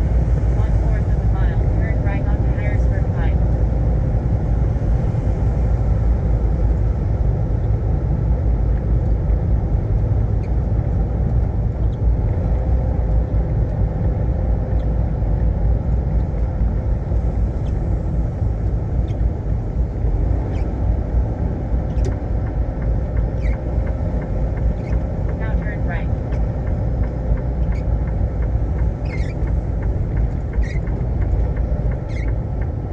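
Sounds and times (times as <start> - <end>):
faint steady hum: 0.0 - 32.9
truck engine and road rumble: 0.0 - 32.9.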